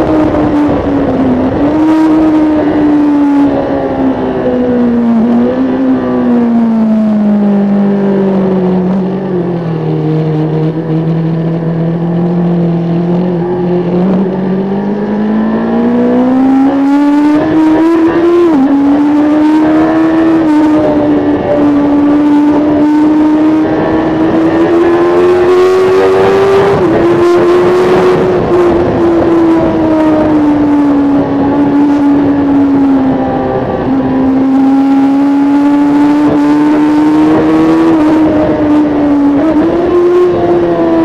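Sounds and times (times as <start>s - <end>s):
motorcycle engine revving high: 0.0s - 41.0s
wind rush: 0.0s - 41.0s.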